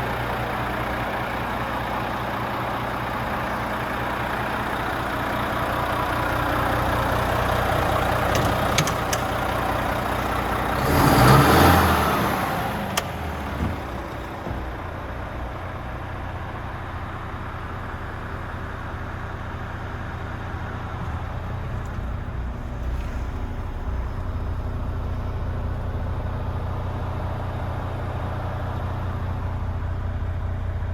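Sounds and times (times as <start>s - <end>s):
diesel truck engine idling: 0.0s - 30.9s.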